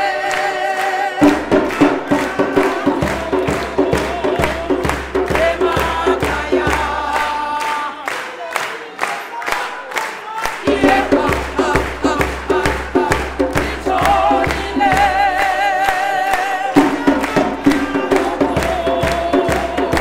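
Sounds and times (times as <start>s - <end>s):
choir singing: 0.0s - 20.0s
hands clapping to a beat: 0.0s - 20.0s.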